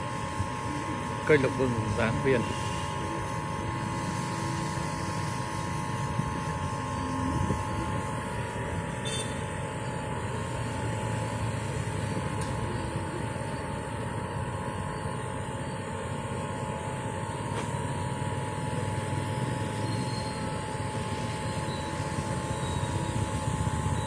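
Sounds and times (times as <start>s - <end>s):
faint high hum: 0.0s - 24.0s.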